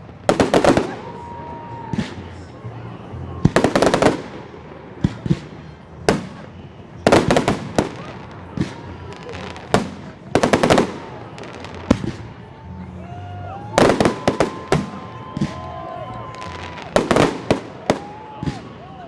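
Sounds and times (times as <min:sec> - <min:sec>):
fireworks bangs and crackles: 0:00.0 - 0:12.8, 0:13.4 - 0:19.0.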